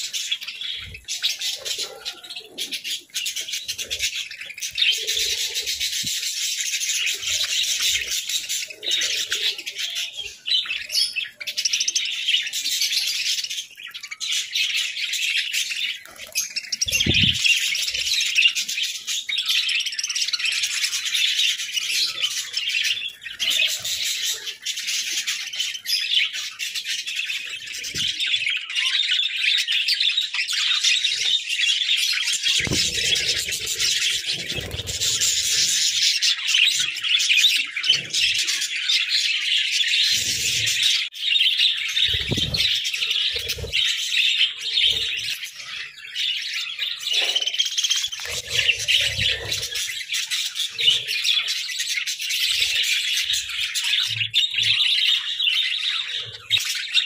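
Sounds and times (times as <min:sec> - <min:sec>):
budgerigars chirping and chattering: 0:00.0 - 0:57.0.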